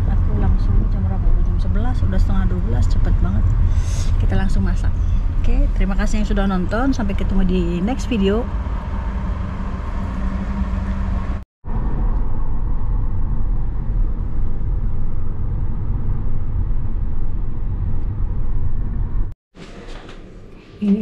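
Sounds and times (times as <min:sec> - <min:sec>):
car road and engine rumble: 0:00.0 - 0:19.4.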